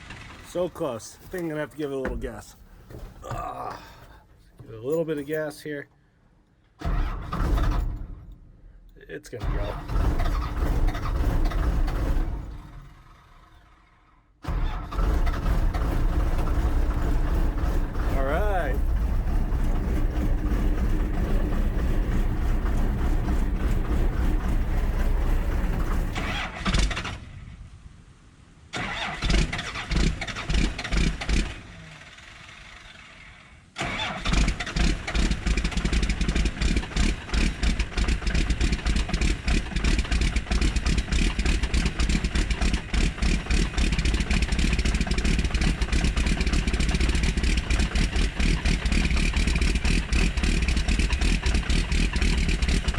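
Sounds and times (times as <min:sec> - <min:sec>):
diesel engine running rough: 0:00.0 - 0:01.0, 0:09.4 - 0:27.1, 0:29.0 - 0:52.9.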